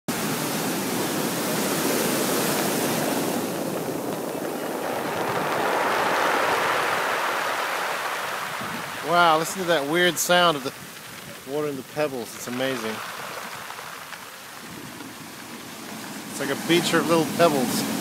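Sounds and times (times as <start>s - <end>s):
waves on pebble beach: 0.1s - 18.0s.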